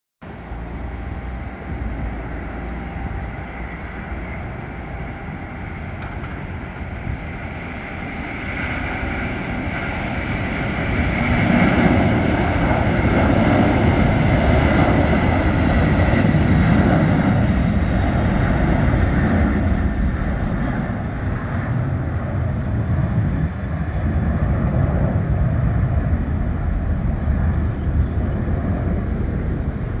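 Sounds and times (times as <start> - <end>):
jet engines rumbling and whining: 0.2 - 30.0.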